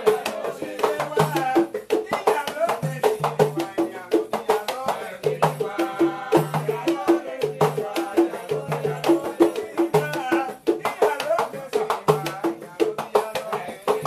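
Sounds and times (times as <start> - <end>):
hand drums playing a rhythm: 0.0 - 14.0
person singing: 0.0 - 14.0.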